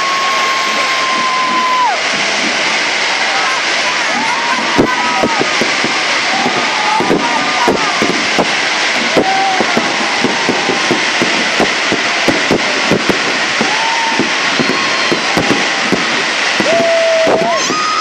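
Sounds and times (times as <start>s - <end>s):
crowd noise: 0.0s - 18.0s
fireworks bangs: 0.0s - 18.0s
fireworks crackling: 0.0s - 18.0s
whistling fireworks: 0.0s - 18.0s.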